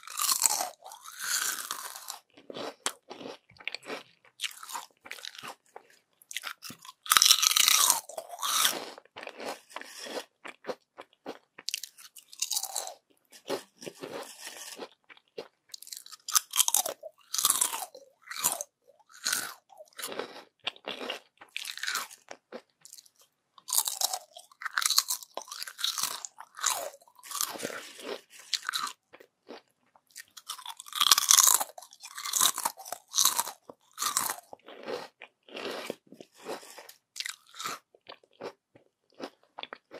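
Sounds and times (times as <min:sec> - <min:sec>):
crunchy chips being chewed: 0:00.0 - 0:39.9.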